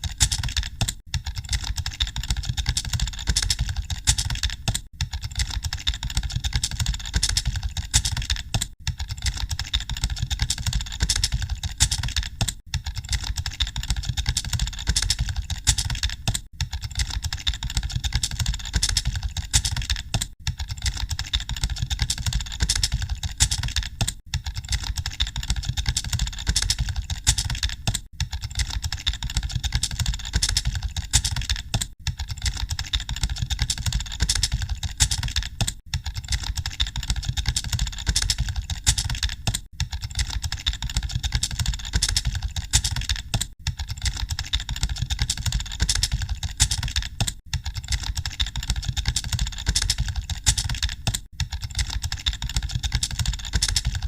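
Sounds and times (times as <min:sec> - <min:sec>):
keyboard typing: 0:00.0 - 0:54.0.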